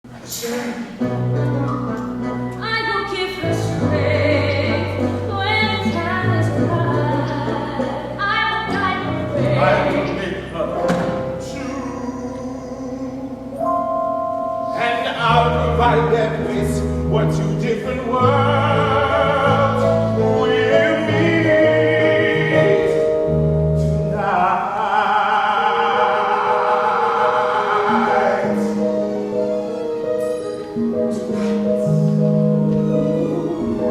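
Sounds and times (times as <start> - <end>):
voices singing: 0.1 - 23.3, 24.0 - 33.9
instrumental accompaniment: 0.1 - 24.8, 25.7 - 33.9.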